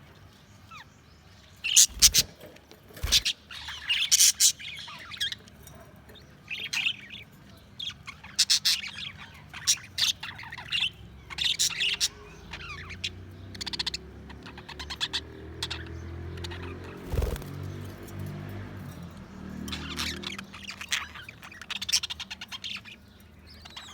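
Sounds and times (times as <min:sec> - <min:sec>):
budgerigars chirping and warbling: 0:00.0 - 0:23.9.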